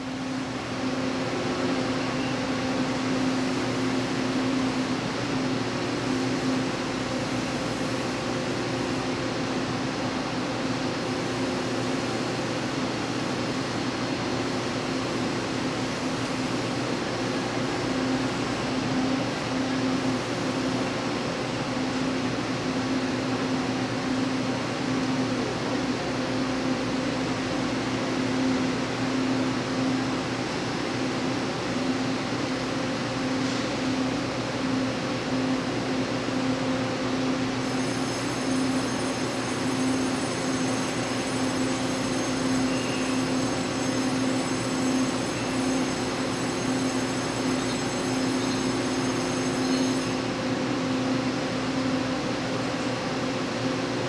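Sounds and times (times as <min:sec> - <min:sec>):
train air-conditioning whirring: 0:00.0 - 0:54.0.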